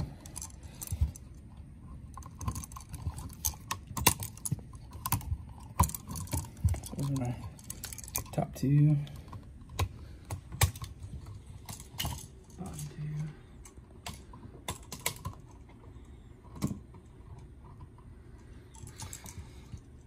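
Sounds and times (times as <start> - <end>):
screwdriver and wires clicking on plastic: 0.0 - 19.9.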